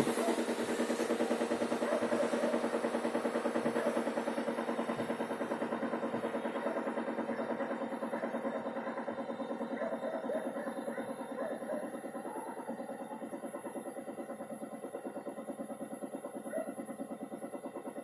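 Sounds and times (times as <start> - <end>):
engine running with rapid knock: 0.0 - 18.0.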